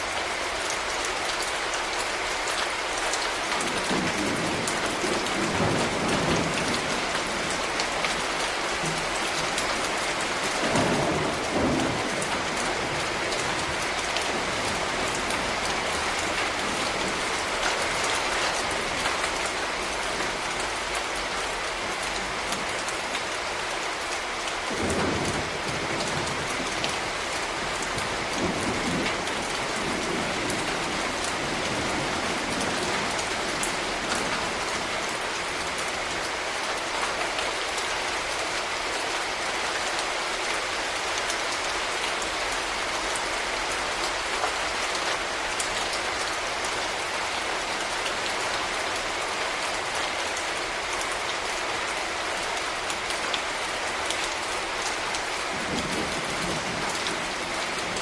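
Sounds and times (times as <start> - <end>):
rain falling on a street: 0.0 - 58.0.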